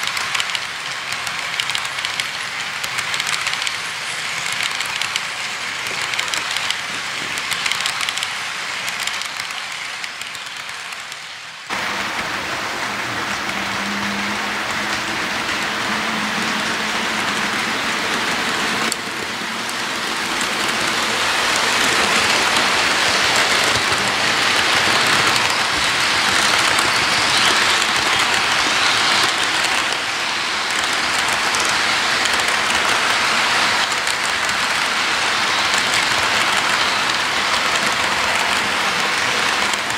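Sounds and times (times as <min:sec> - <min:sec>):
model train wheels clattering: 0:00.0 - 0:11.5, 0:13.5 - 0:39.9.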